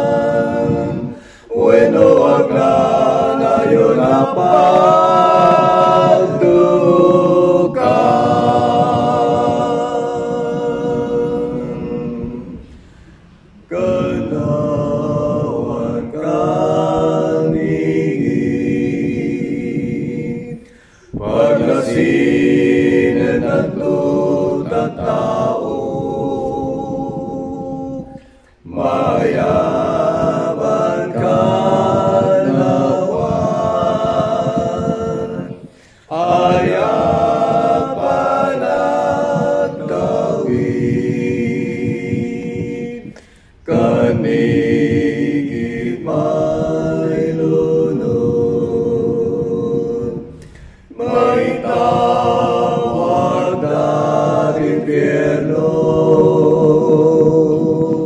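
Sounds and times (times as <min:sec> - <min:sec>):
man singing a cappella harmony: 0:00.0 - 0:13.0, 0:13.6 - 0:58.0.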